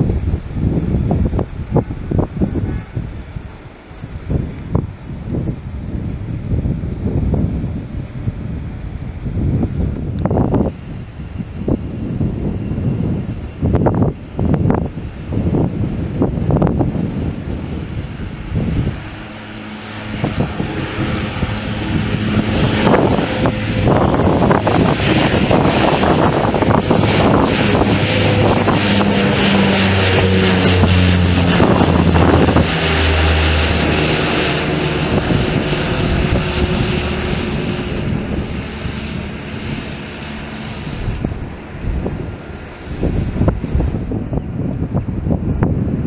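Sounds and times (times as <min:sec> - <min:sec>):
turboprop plane passing overhead: 0:00.0 - 0:46.0.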